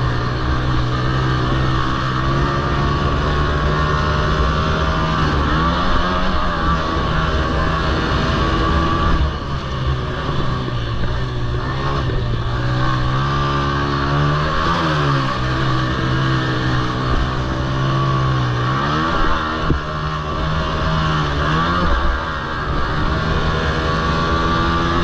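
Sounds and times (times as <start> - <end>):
quad engine at high revs: 0.0 - 25.0.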